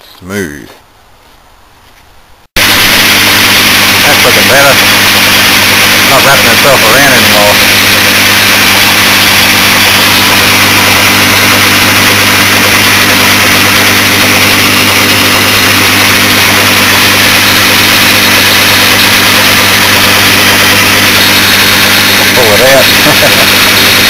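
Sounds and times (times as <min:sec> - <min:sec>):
lathe motor hum: 0:02.6 - 0:24.0
whirring hiss of cutting: 0:02.6 - 0:24.0.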